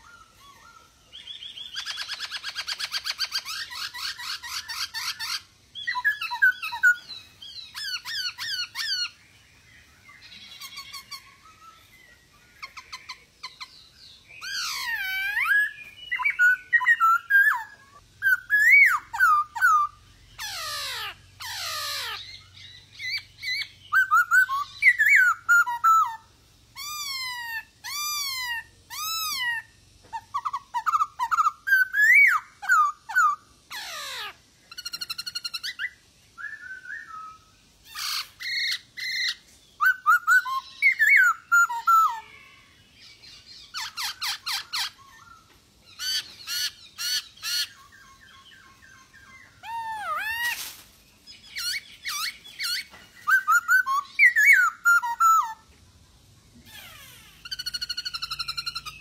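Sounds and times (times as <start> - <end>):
harsh rasping bird calls: 0.0 - 36.0, 37.0 - 55.7, 56.6 - 59.0
bird whistling song: 0.0 - 55.8, 56.6 - 59.0.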